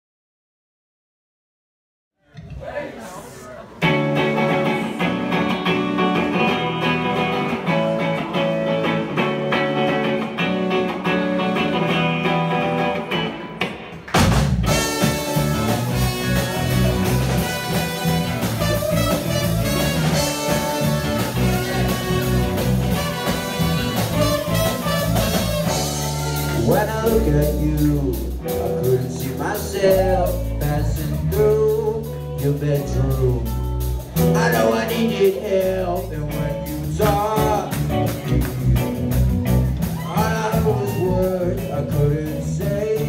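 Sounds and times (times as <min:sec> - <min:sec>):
electric guitars playing: 0:03.7 - 0:43.0
rock band playing with drums: 0:03.8 - 0:43.0.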